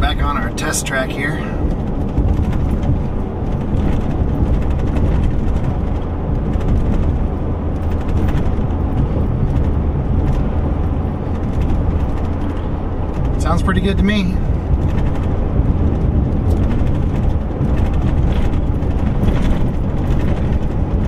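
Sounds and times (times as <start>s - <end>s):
pickup engine and road rumble: 0.0s - 21.0s.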